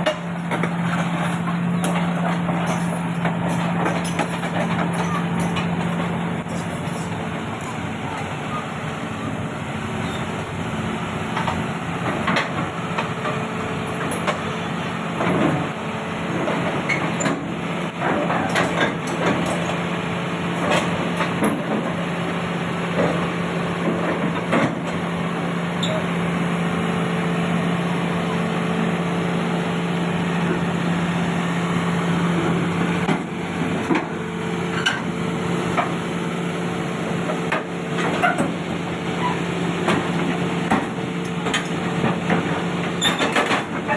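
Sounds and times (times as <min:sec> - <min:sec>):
heavy machinery engine running: 0:00.0 - 0:43.9.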